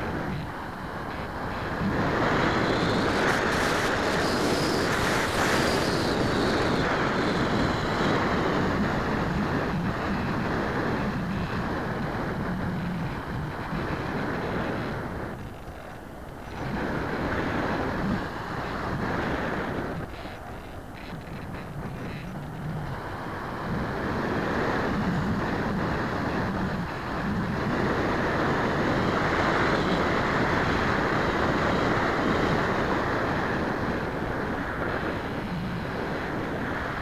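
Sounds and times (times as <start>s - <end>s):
wind rushing over camera: 0.0s - 37.0s.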